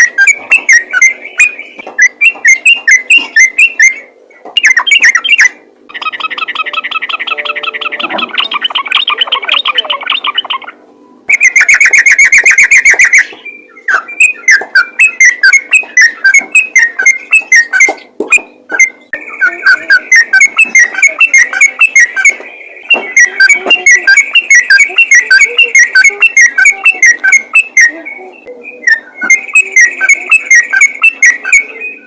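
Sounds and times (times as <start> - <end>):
bulbul singing chattering notes: 0.0 - 32.0.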